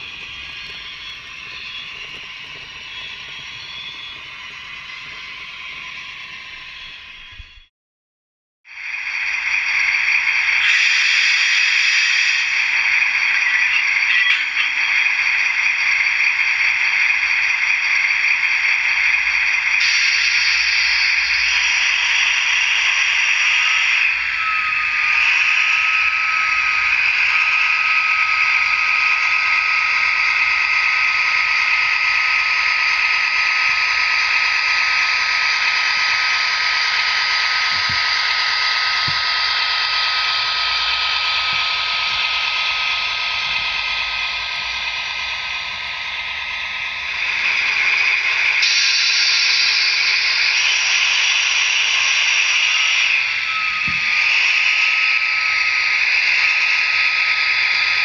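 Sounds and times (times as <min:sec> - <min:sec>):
model locomotive diesel engine sound: 0:00.0 - 0:07.7, 0:08.7 - 0:58.0
thin rising whine: 0:00.0 - 0:07.7, 0:08.7 - 0:58.0.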